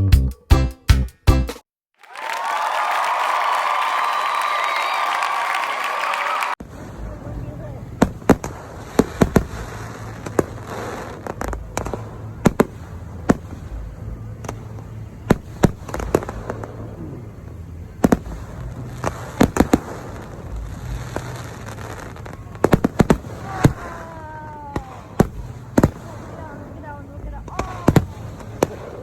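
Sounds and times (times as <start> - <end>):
fireworks crackling: 3.3 - 29.0
fireworks bangs: 3.6 - 29.0.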